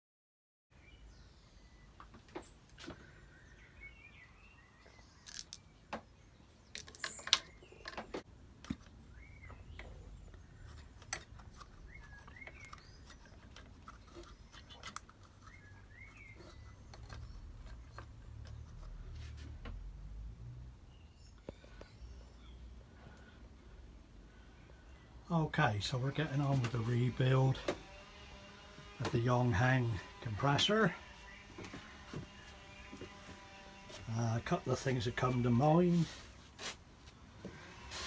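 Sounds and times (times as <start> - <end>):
birds chirping: 0.8 - 19.2, 20.9 - 36.4.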